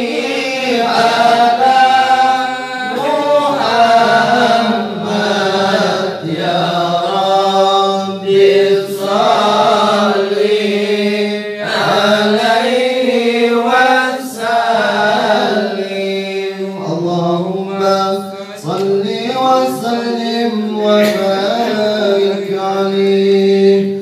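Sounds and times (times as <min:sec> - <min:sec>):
men chanting in unison: 0:00.0 - 0:24.0.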